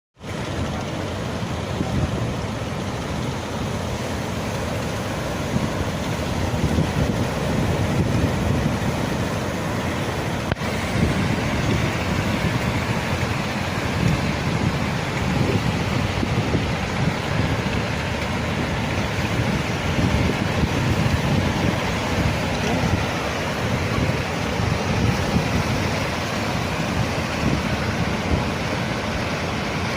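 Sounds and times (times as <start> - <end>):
sea rushing: 0.2 - 29.9
wind buffeting microphone: 3.8 - 29.9.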